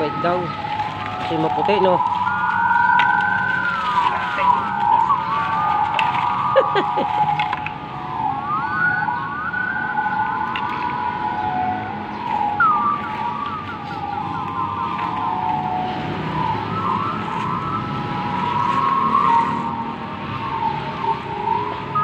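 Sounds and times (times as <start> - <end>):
electronic siren chirping: 0.0 - 22.0.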